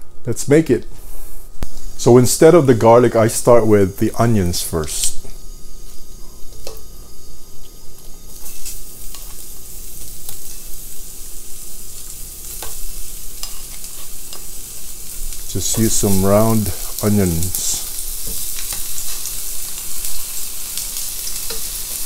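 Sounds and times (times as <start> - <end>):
onion rings sizzling in hot oil: 1.1 - 22.0.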